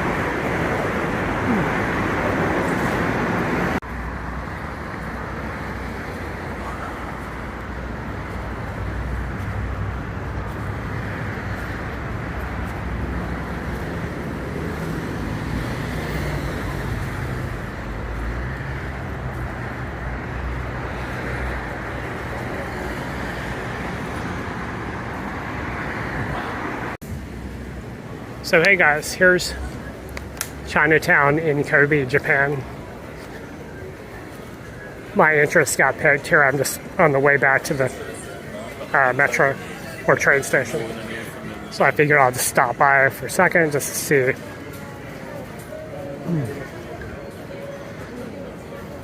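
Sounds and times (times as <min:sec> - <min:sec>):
passing vehicles rumbling: 0:00.0 - 0:49.0.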